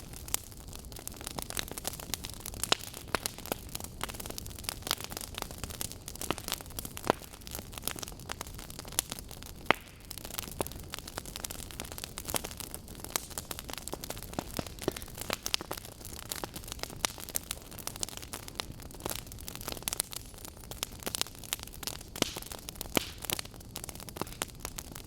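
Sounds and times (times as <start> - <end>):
burning logs crackling and popping: 0.0 - 25.0
low rumble of flames: 0.0 - 25.0.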